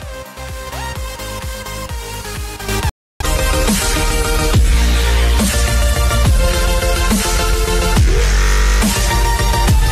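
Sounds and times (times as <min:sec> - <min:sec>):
electronic music with heavy bass: 0:00.0 - 0:09.9.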